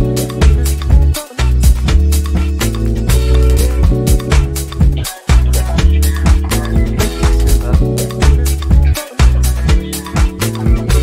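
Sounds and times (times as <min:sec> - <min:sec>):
dance music with bass line: 0:00.0 - 0:11.0.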